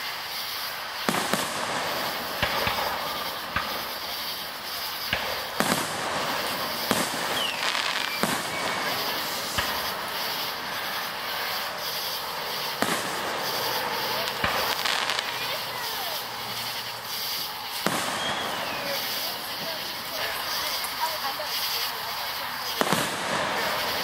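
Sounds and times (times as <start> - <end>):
firework shells bursting: 0.0 - 24.0
steady background noise: 0.0 - 24.0.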